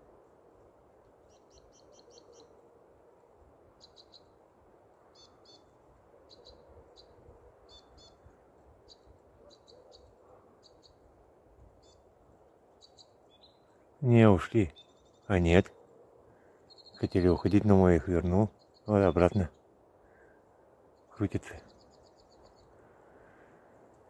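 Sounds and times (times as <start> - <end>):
low rush of wind: 0.0 - 24.0.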